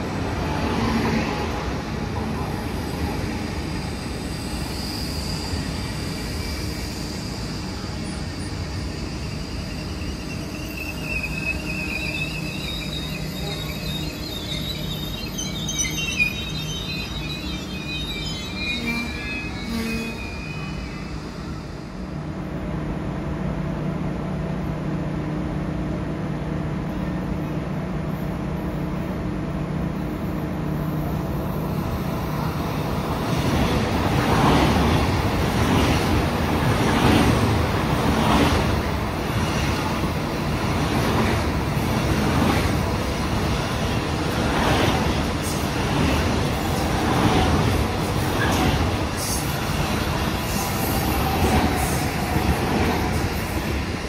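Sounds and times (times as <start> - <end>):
electric train hum: 0.0 - 54.0.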